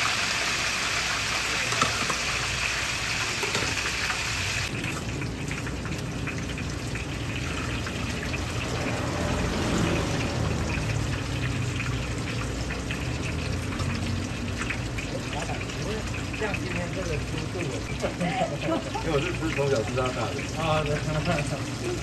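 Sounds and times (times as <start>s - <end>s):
food deep-frying in oil: 0.0s - 22.0s.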